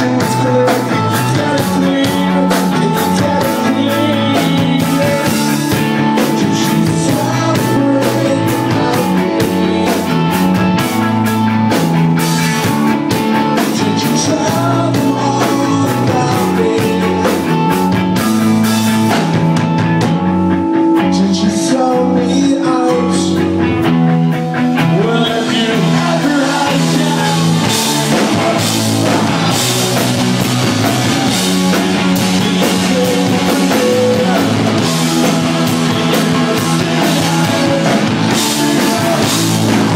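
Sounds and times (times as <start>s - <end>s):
person singing: 0.0s - 10.8s, 13.6s - 18.2s, 20.9s - 23.6s, 24.8s - 30.1s, 31.2s - 39.9s
bass: 0.0s - 39.9s
drum kit: 0.0s - 39.9s
electric guitars: 0.0s - 39.9s.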